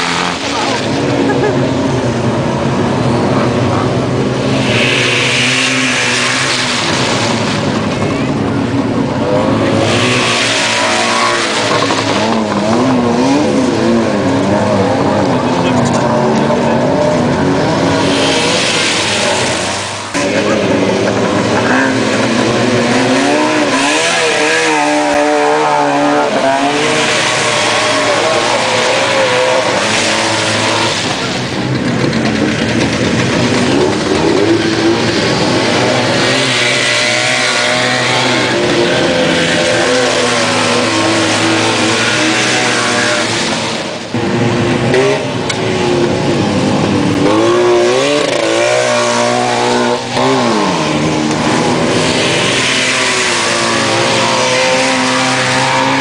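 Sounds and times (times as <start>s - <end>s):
two-stroke car engines revving: 0.0s - 56.0s.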